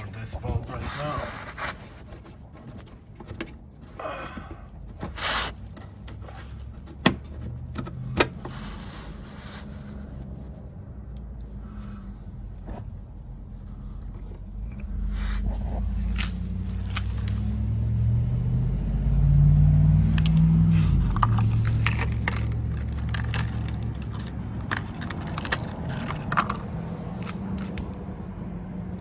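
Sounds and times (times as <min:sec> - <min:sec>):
vehicle engine hum: 0:00.0 - 0:29.0.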